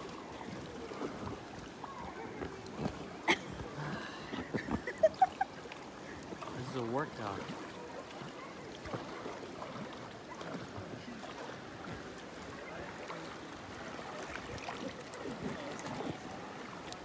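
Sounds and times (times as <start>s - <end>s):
water splashing and lapping: 0.0s - 17.0s.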